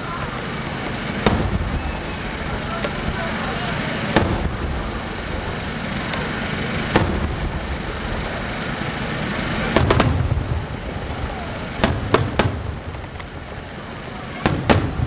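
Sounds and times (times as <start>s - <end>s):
low rumble of fireworks: 0.0s - 15.0s
firework shells bursting: 0.2s - 13.6s, 14.4s - 15.0s.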